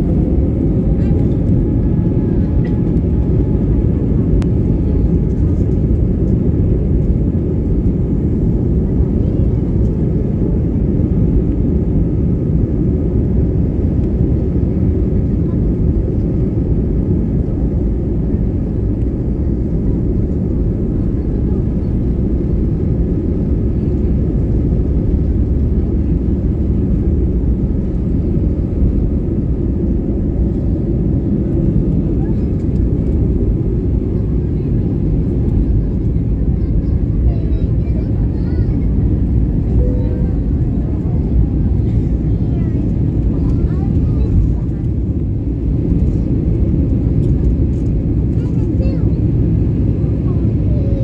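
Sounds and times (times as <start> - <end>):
cabin low rumble: 0.0 - 51.0.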